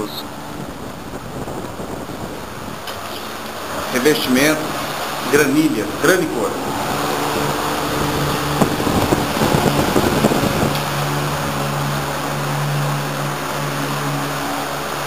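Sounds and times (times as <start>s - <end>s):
machine humming with hiss: 0.0s - 15.0s.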